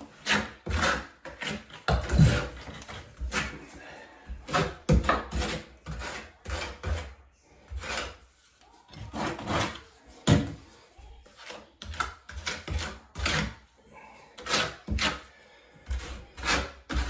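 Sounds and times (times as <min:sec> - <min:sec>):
trowel scraping mortar: 0:00.0 - 0:10.7, 0:11.3 - 0:13.7, 0:14.3 - 0:17.0.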